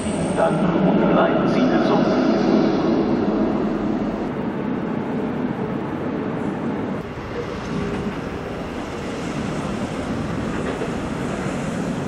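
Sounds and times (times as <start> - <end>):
railway station rumble: 0.0 - 12.0.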